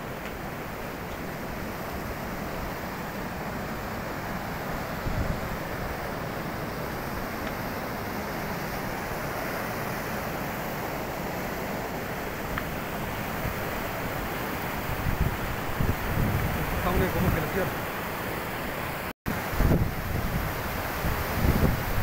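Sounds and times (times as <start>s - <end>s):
rushing meltwater torrent: 0.0s - 22.0s.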